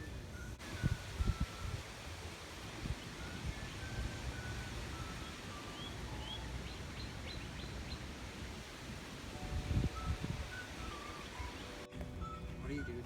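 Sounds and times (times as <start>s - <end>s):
songbird singing: 0.6s - 13.0s.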